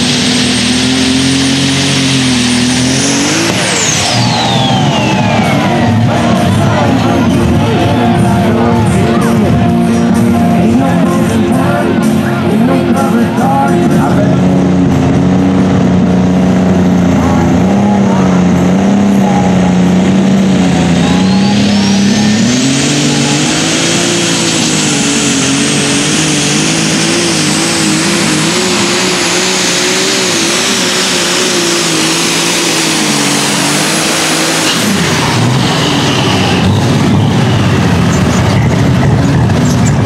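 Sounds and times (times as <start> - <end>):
high turbo whine: 0.0 - 40.0
tractor engine revving: 0.0 - 40.0.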